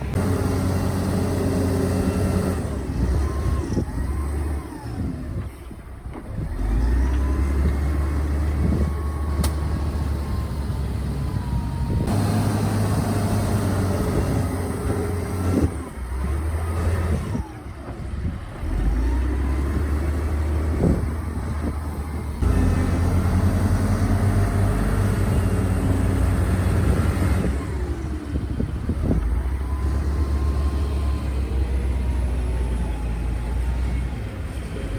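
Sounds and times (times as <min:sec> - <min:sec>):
heavy diesel machinery engine: 0:00.0 - 0:34.9.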